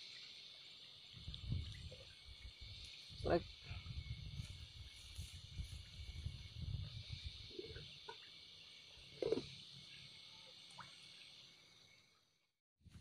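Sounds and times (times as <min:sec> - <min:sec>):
high-pitched insect chorus: 0:00.0 - 0:12.2.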